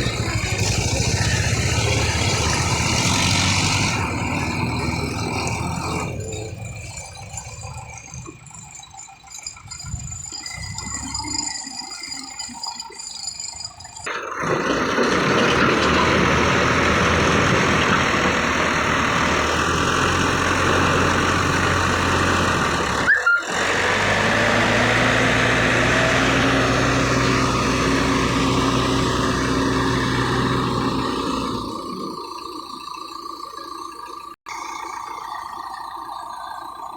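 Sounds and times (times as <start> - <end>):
heavy diesel machinery engine: 0.0 - 36.9.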